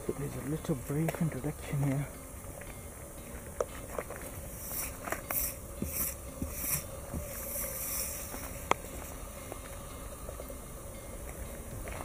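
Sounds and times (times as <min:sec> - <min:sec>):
dry leaves rustling on wood: 0:00.0 - 0:10.5.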